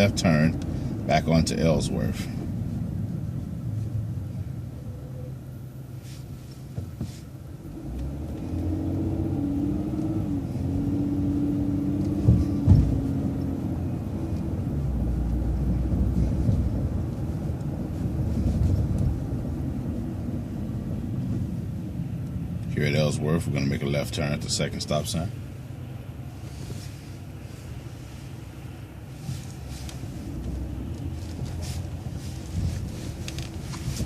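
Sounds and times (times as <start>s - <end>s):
bus engine rumble: 0.0s - 34.0s.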